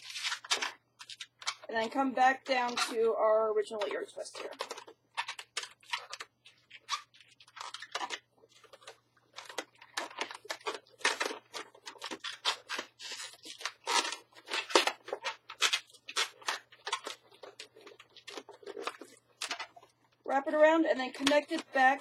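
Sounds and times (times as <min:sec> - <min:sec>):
balloons squeaking: 0:00.0 - 0:03.2, 0:03.9 - 0:19.8.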